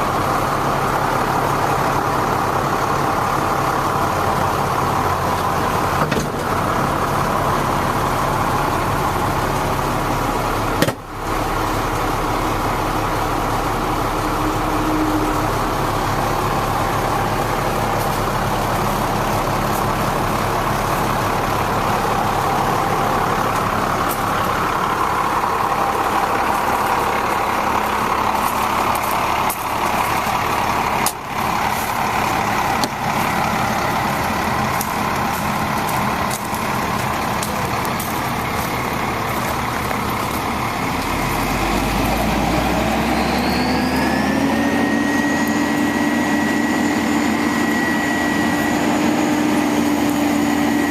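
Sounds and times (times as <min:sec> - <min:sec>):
diesel truck engine running: 0:00.0 - 0:50.9.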